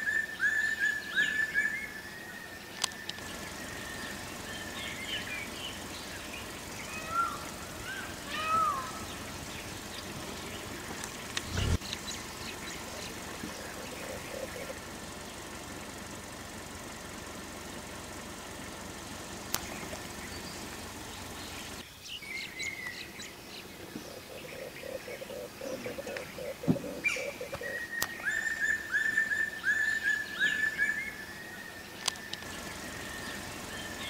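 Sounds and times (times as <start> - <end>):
bird chirps: 0.0 - 34.0
steady background hiss: 0.0 - 34.0.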